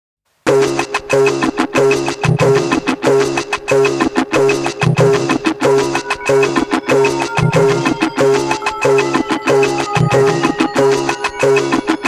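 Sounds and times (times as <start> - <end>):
instrumental music with repeating riff: 0.5 - 12.0
steady beat: 0.5 - 12.0.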